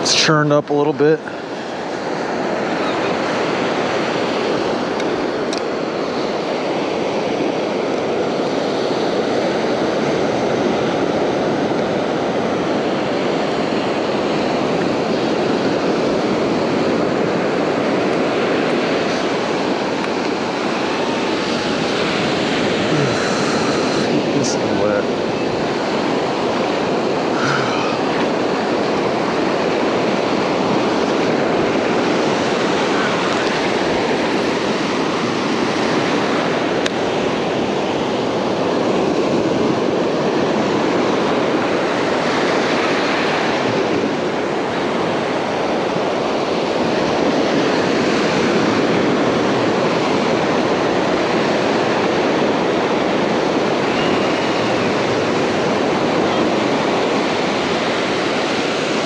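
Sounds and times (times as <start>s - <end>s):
ocean surf breaking on beach: 0.0s - 59.0s.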